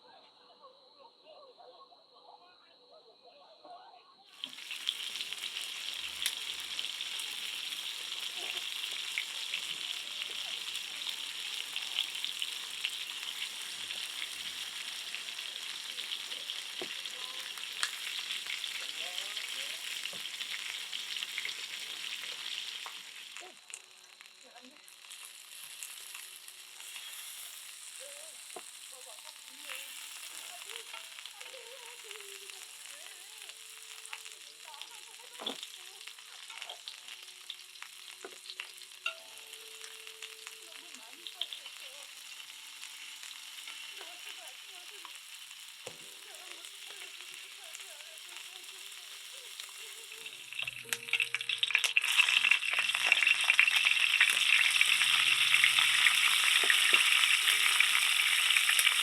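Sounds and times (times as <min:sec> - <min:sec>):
ribs sizzling in a pan: 0:04.3 - 0:59.0.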